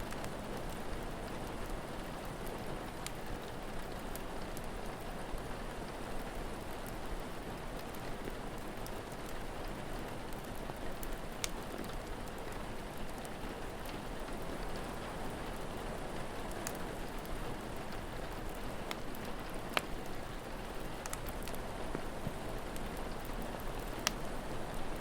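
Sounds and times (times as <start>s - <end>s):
steady rain falling: 0.0s - 25.0s
wood fire crackles: 0.0s - 25.0s.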